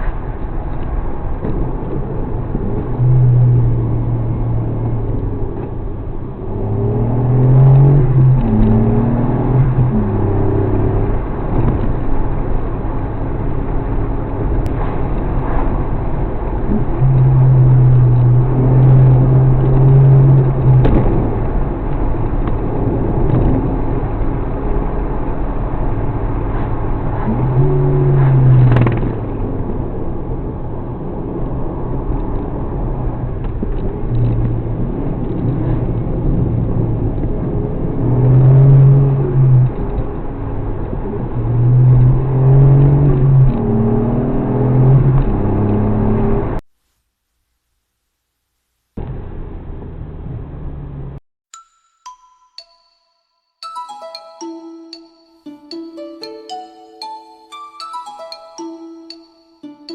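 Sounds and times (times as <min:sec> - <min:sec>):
car engine while driving: 0:00.0 - 0:46.6, 0:49.0 - 0:51.2
road noise: 0:00.0 - 0:46.8, 0:49.0 - 0:51.2.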